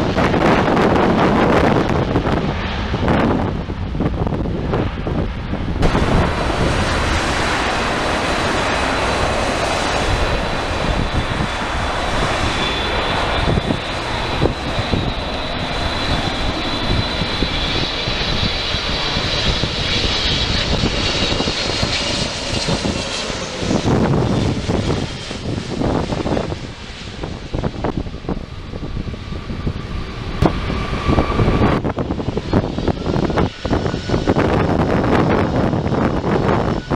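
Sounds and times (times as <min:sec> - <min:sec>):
jet engines passing: 0:00.0 - 0:36.9.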